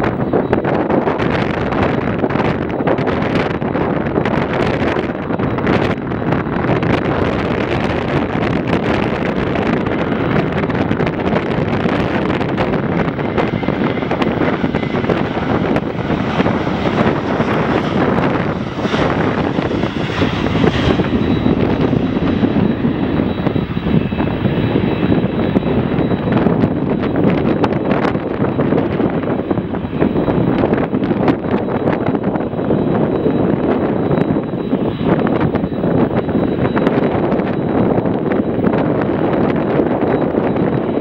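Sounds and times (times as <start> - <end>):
faint high whine: 0.0 - 41.0
jet airliner engines roaring: 0.0 - 41.0
wind on microphone: 0.0 - 41.0.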